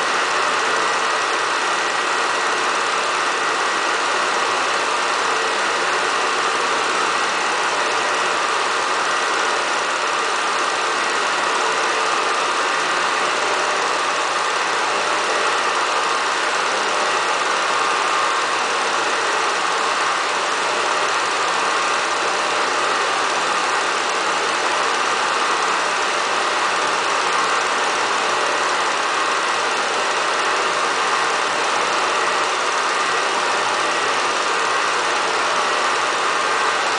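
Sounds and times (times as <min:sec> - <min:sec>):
mechanical running noise: 0:00.0 - 0:36.9.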